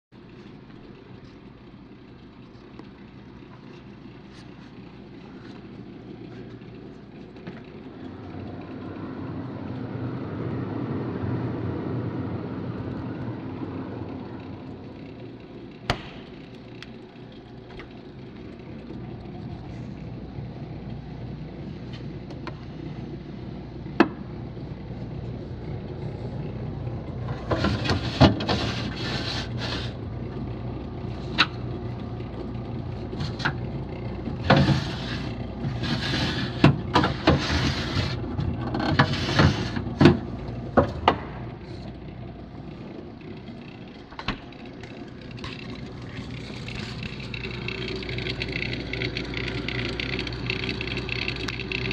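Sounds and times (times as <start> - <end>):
steady low hum: 0.2 - 51.9.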